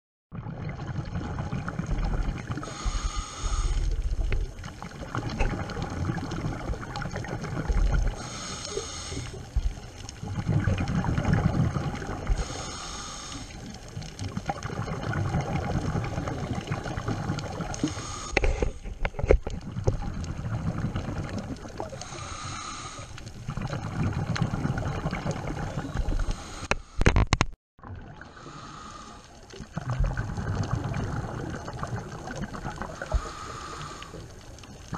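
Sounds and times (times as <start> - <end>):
regulator bubbles underwater: 0.3 - 26.7, 27.8 - 34.9
low water rumble: 0.3 - 27.0, 27.8 - 34.9.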